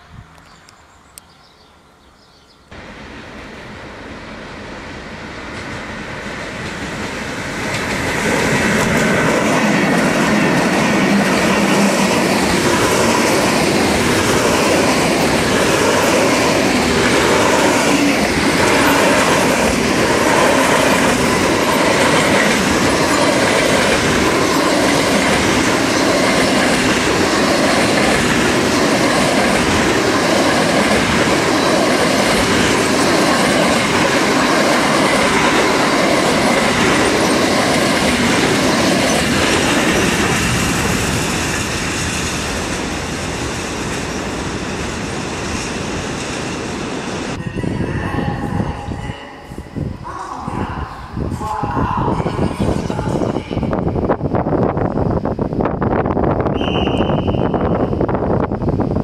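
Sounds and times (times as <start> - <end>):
freight train rumble: 2.7 - 59.0.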